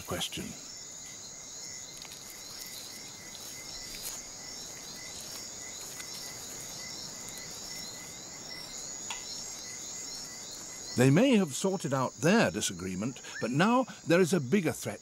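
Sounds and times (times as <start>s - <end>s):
insects trilling and chirping: 0.0s - 15.0s.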